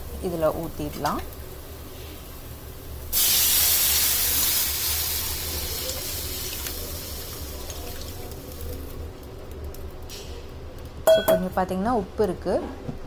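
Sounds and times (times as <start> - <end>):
liquid sizzling in hot oil: 0.0 - 11.6.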